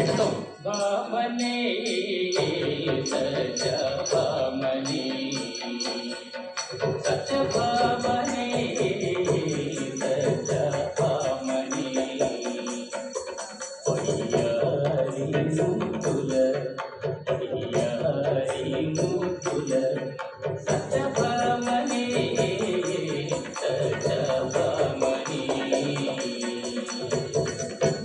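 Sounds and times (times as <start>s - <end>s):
drums: 0.0s - 0.9s, 2.3s - 28.0s
jingling percussion: 0.0s - 28.0s
person singing: 0.0s - 28.0s.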